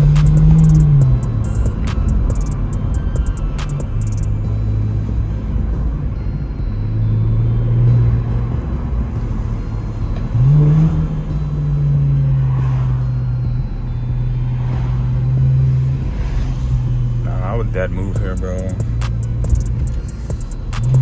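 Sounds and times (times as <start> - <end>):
car exhaust droning: 0.0 - 21.0.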